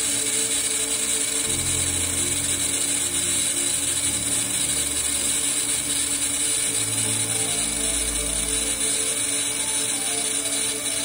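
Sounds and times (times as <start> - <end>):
low humming tones: 0.0 - 11.0
welding arc hissing: 0.0 - 11.0.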